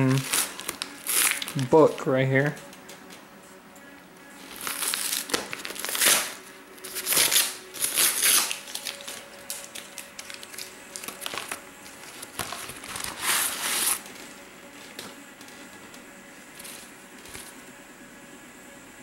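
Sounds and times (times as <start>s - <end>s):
bubble mailer crinkling: 0.0s - 2.6s, 4.4s - 17.6s.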